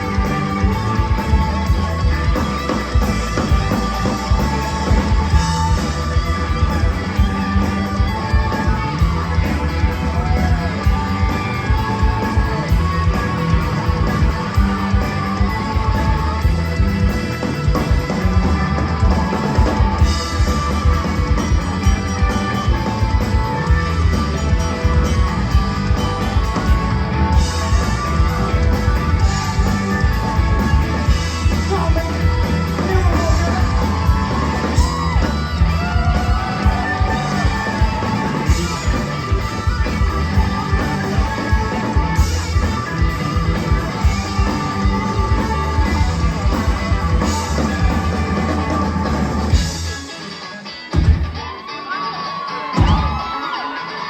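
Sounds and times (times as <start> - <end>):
electric guitar: 0.0 - 54.0
rock band playing loudly: 0.0 - 54.0.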